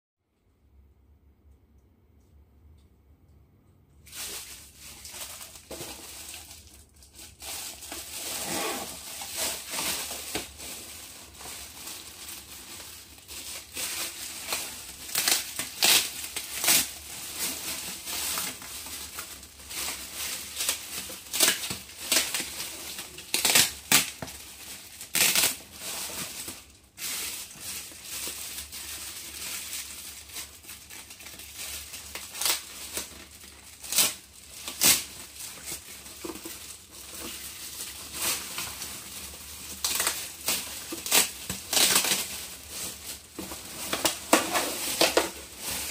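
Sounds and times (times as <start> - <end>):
plastic bag crinkling: 4.0 - 45.9.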